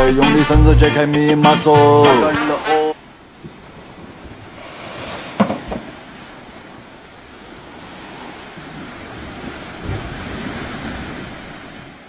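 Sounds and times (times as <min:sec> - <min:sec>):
surf washing on a beach: 0:00.9 - 0:12.0.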